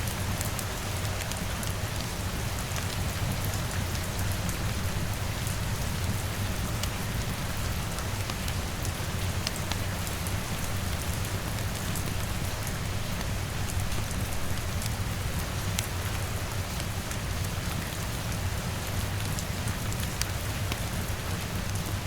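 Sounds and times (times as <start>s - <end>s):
rain pattering on window and roof: 0.0s - 22.0s.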